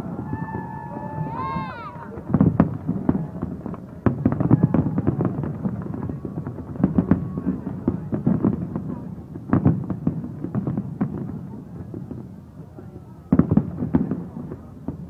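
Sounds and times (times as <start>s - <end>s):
fireworks bursting: 0.0s - 12.7s, 13.3s - 15.0s
fireworks crackling: 0.0s - 15.0s.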